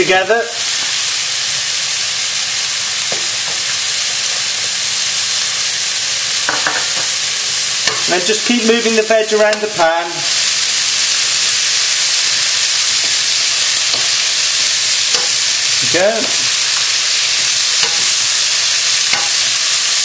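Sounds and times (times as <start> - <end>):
vegetables sizzling in frying pan: 0.0 - 20.0.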